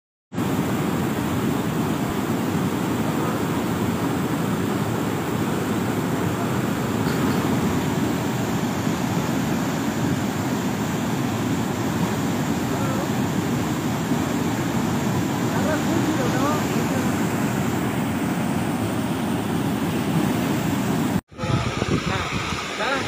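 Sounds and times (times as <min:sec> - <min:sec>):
floodwater rushing: 0:00.4 - 0:23.0.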